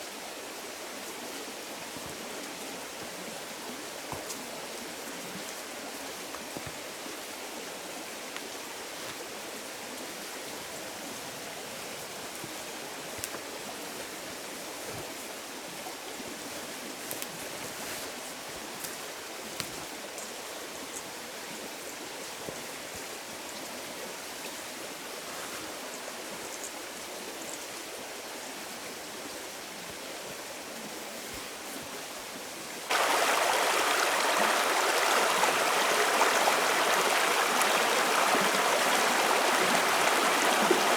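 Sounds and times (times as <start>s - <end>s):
running water rushing: 0.0s - 27.3s, 29.4s - 40.9s.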